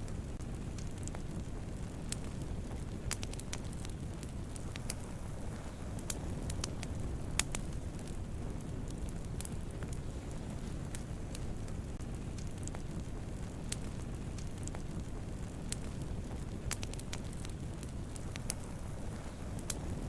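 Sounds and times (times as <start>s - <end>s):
campfire flames rumbling: 0.0s - 20.0s
fire crackling and popping: 0.0s - 20.0s.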